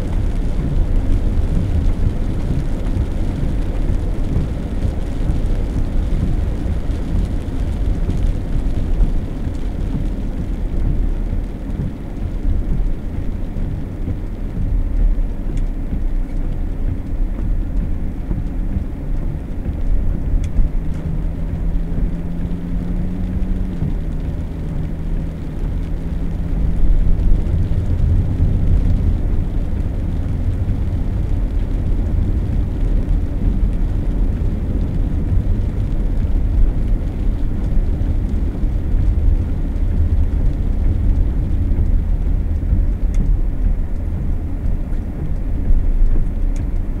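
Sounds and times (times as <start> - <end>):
car engine and road rumble: 0.0 - 47.0
low steady hum: 0.0 - 47.0.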